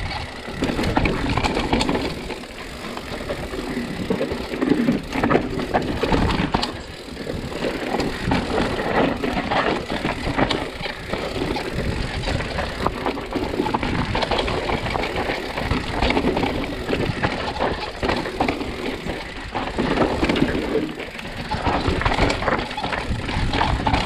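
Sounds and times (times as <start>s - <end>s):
bike rattling and knocking: 0.0s - 24.0s
tyres on loose stones: 0.0s - 24.0s.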